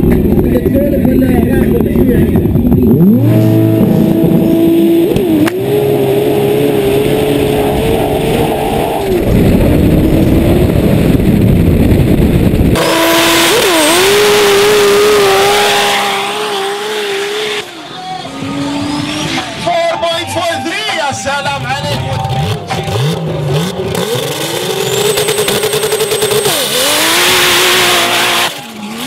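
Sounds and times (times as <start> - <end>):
racing engine at full throttle: 0.0 - 29.0.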